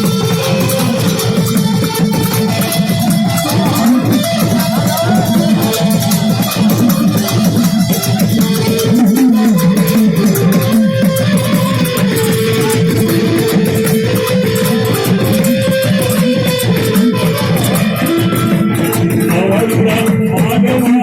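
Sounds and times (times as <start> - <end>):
plucked string instrument melody: 0.0 - 19.7.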